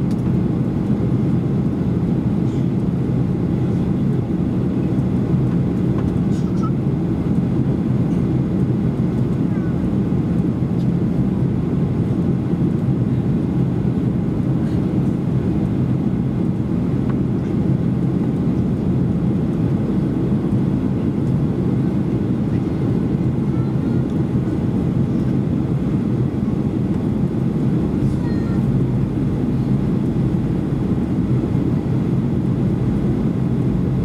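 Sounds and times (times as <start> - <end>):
airflow over fuselage: 0.0 - 34.0
jet engine drone: 0.0 - 34.0.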